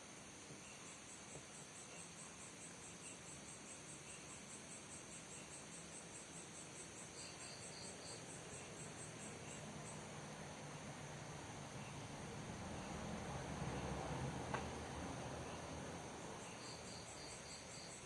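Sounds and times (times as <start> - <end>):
constant hiss: 0.0 - 18.0
crickets chirping: 0.0 - 18.0.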